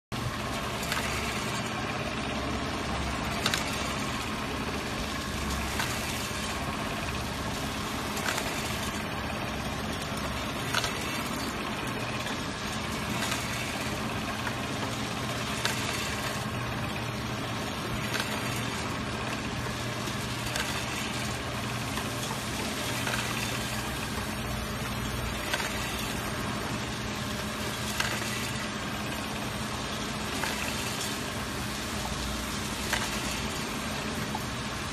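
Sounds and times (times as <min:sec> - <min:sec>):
machine motor hum: 0:00.2 - 0:34.9.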